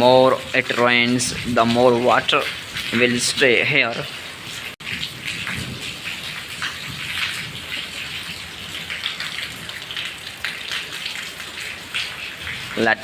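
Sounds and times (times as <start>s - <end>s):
rain drops pattering: 0.0s - 13.0s.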